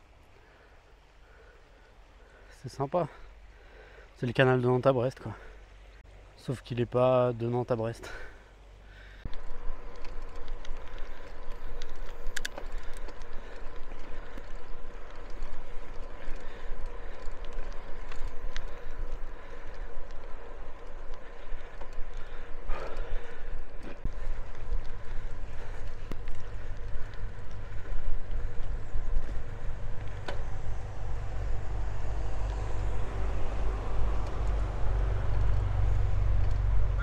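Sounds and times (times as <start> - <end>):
bicycle tyres rolling on path: 0.0 - 37.0.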